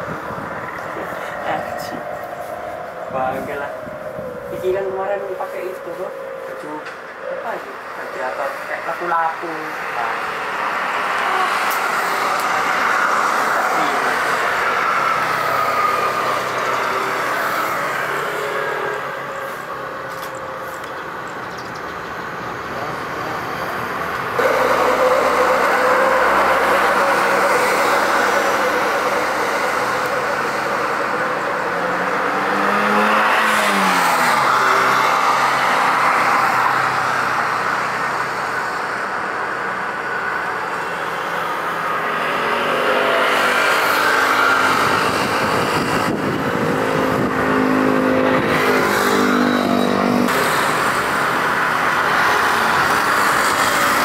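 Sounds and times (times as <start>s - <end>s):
jet engines passing: 0.0s - 54.0s.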